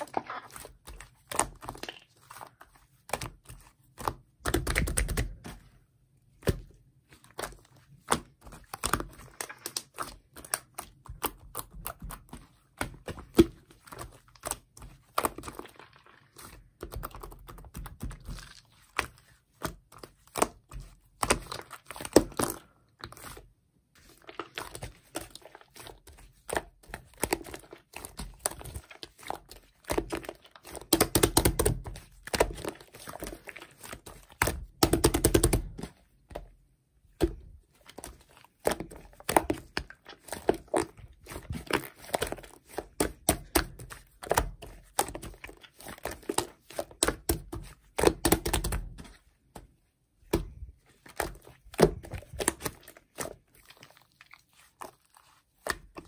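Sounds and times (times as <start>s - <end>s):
clay being kneaded by hand: 0.0s - 56.0s.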